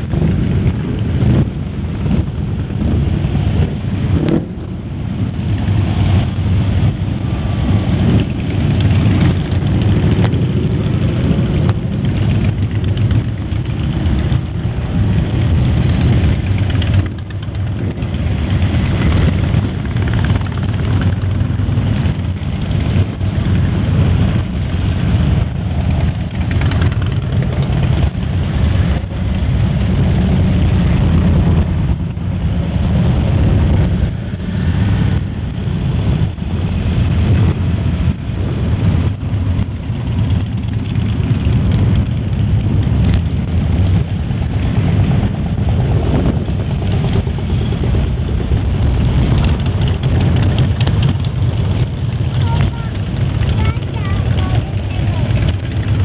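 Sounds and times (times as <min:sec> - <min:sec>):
motorcycles riding past: 0:00.0 - 0:56.0.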